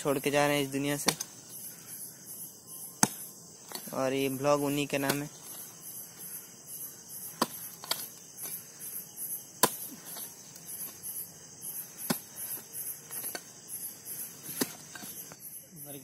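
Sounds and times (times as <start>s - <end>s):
crickets chirping: 0.0s - 16.0s
spade digging into earth: 1.0s - 1.7s, 2.8s - 15.4s.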